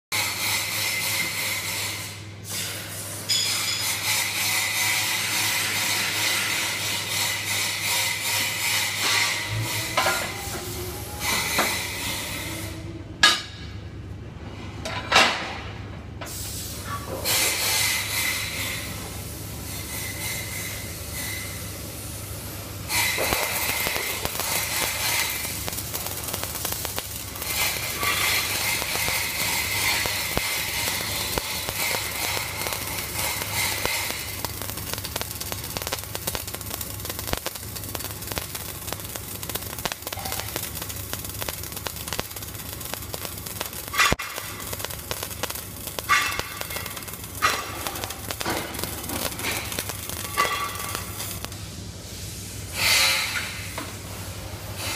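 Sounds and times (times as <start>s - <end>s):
welding arc crackling hiss: 0.1s - 13.7s, 16.2s - 54.9s
sharp welding pops: 0.2s - 13.8s, 15.3s - 54.2s.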